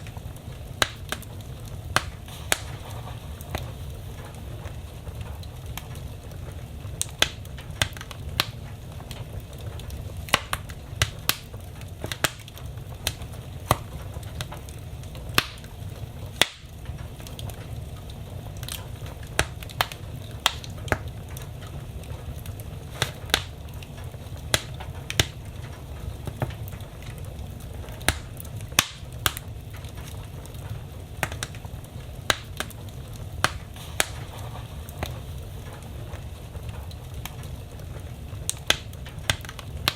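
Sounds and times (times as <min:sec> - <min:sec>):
fire flames rumbling: 0:00.0 - 0:39.9
logs crackling and popping: 0:00.0 - 0:39.9.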